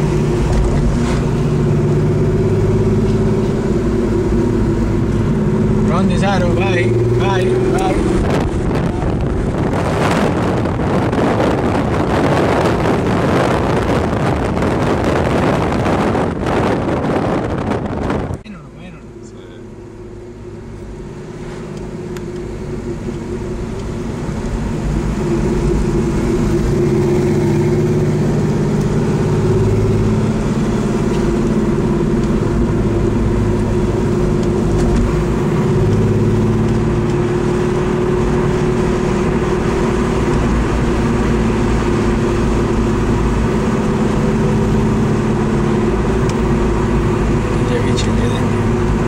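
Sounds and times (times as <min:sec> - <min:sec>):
car engine running: 0:00.0 - 0:49.0.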